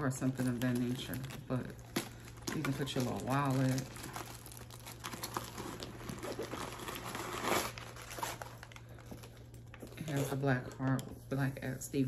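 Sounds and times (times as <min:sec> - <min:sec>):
plastic wrapping crinkling: 0:00.0 - 0:11.1.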